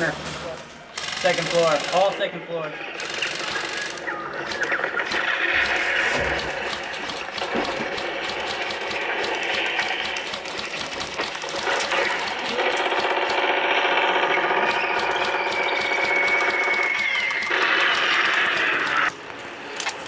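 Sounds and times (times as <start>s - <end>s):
airsoft guns firing rapidly: 1.0s - 2.2s, 3.0s - 19.1s.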